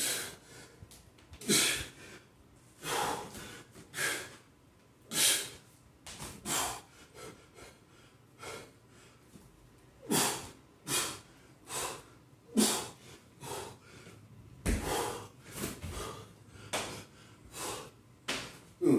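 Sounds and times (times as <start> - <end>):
man breathing heavily: 0.0 - 4.5, 5.1 - 18.1.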